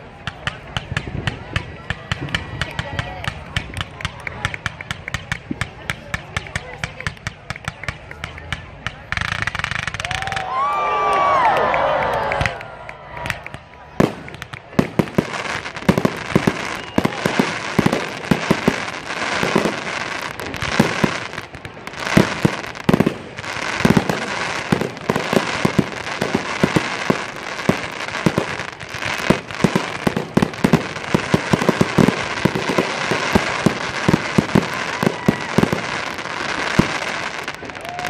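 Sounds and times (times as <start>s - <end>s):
fireworks crackling: 0.0s - 10.7s, 12.2s - 38.0s
fireworks bangs: 0.1s - 10.5s, 13.2s - 38.0s.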